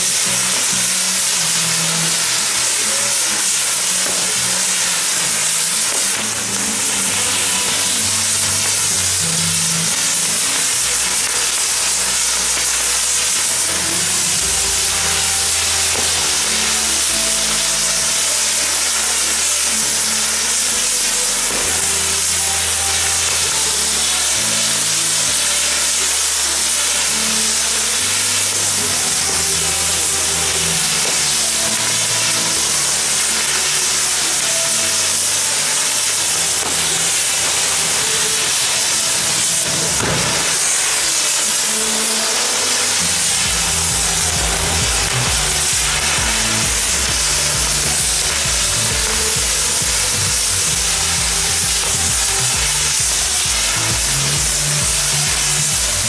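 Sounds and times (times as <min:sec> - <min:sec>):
firework fountain spraying hiss: 0:00.0 - 0:56.0
music: 0:00.0 - 0:56.0.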